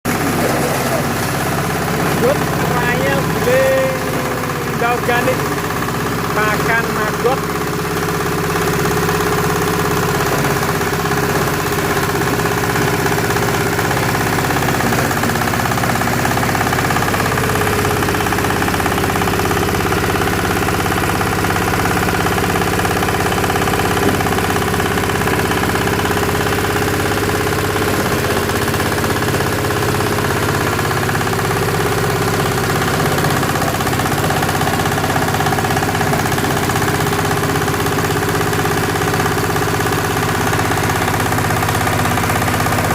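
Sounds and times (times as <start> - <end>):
shredder mechanical drone: 0.1 - 42.9.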